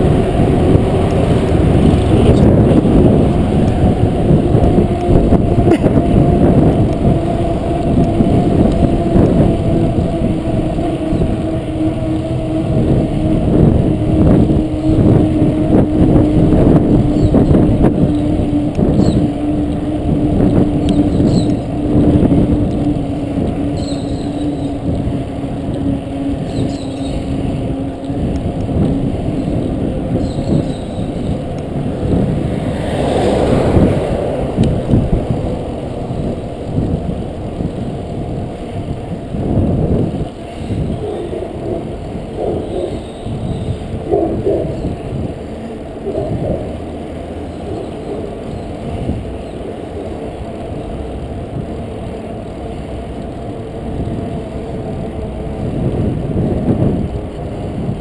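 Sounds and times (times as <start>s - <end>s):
bicycle tyre and road noise: 0.0s - 58.0s
wind buffeting microphone: 0.0s - 58.0s.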